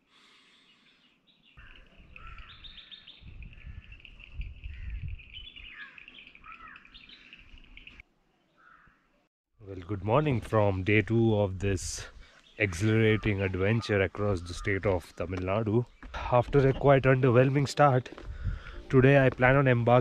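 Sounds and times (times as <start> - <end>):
birds chirping and singing: 0.7 - 9.0, 9.7 - 20.0.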